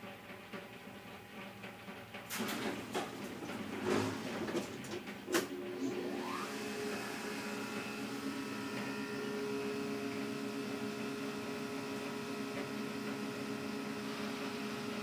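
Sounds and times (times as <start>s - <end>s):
elevator machinery humming: 2.3s - 15.0s.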